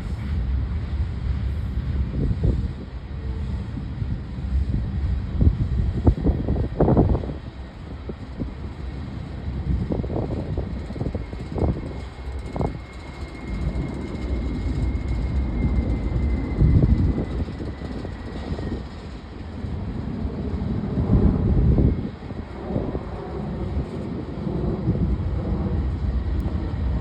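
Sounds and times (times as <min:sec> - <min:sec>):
freight train cars rumbling: 0:00.0 - 0:27.0.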